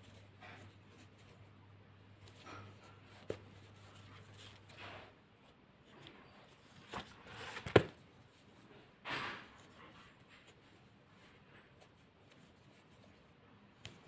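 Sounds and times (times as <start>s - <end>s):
yarn rustling and scraping: 0.0s - 14.0s.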